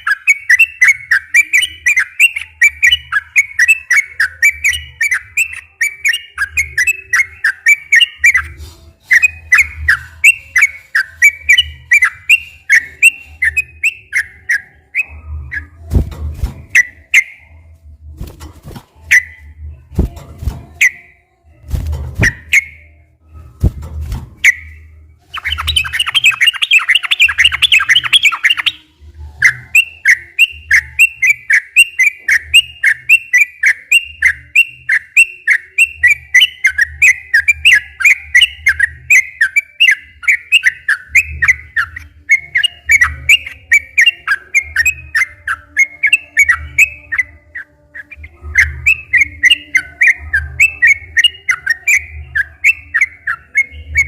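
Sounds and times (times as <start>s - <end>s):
bird singing rapid song: 0.0s - 17.6s, 24.4s - 54.0s.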